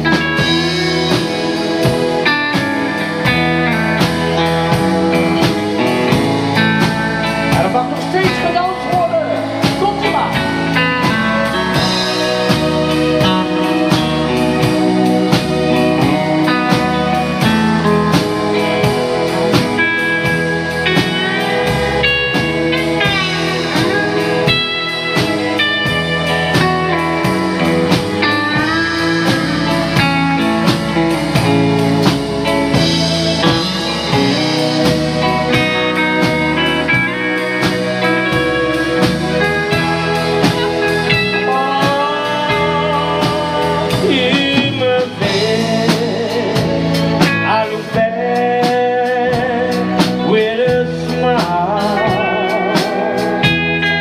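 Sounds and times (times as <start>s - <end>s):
electric guitar lead: 0.0s - 54.0s
live band playing: 0.0s - 54.0s.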